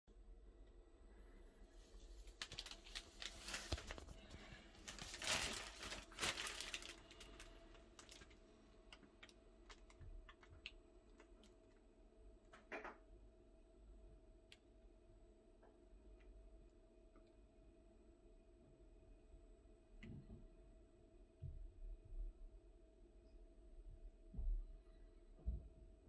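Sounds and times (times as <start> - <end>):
steady boiler hum: 0.1 - 26.0.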